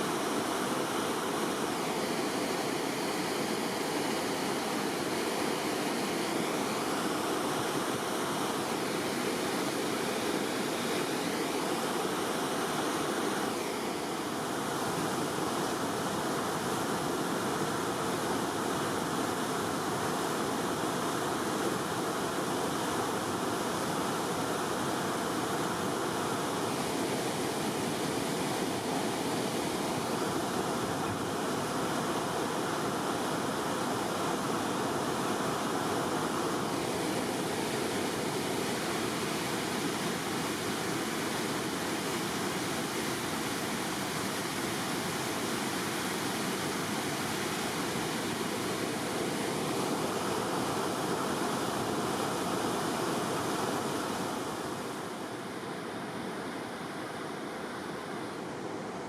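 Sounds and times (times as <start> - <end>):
river water rushing through gates: 0.0 - 59.0.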